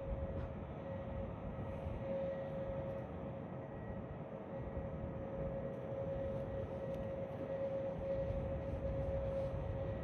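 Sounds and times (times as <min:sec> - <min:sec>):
constant tone: 0:00.0 - 0:10.0
distant jet engines rumbling: 0:00.0 - 0:10.0.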